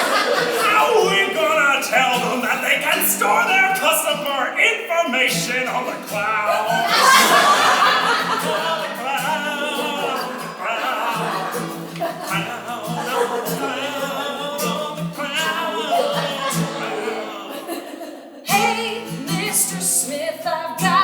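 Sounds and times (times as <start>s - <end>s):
person singing with vibrato: 0.0s - 21.0s.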